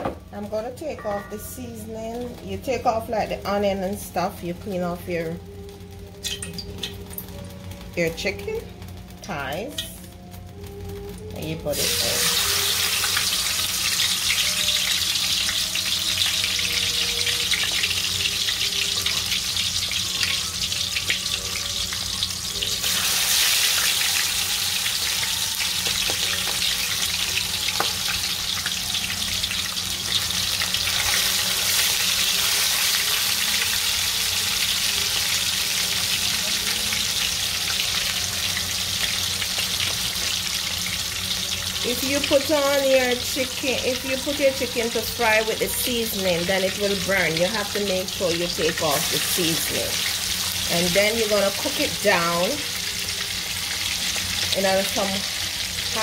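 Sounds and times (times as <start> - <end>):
chicken frying in oil: 0.4 - 56.0.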